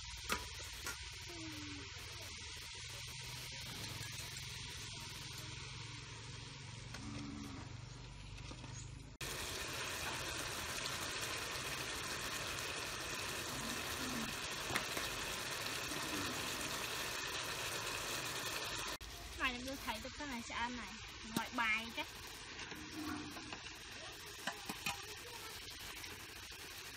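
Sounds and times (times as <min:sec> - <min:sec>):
pot simmering and bubbling: 0:00.0 - 0:26.9.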